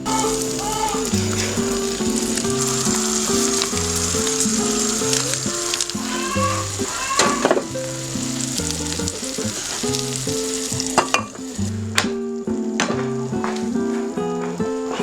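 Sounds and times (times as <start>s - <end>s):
food sizzling in a pan: 0.0s - 15.0s
gentle melody: 0.0s - 15.0s.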